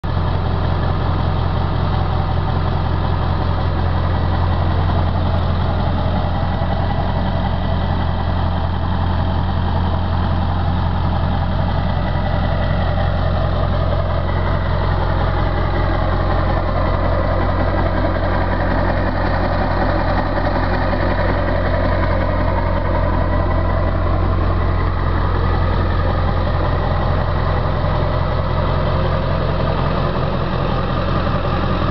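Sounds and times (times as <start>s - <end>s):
pickup truck engine idling: 0.0s - 31.9s.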